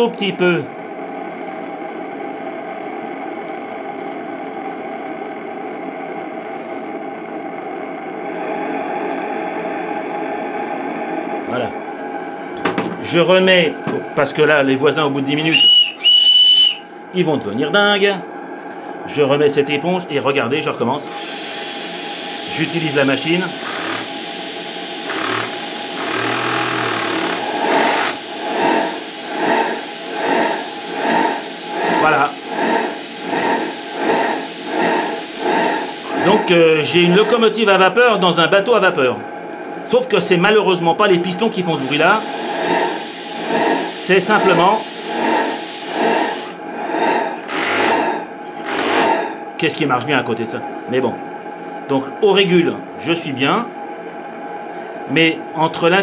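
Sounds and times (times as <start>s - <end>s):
gas regulator droning: 0.0s - 16.9s, 19.6s - 49.6s.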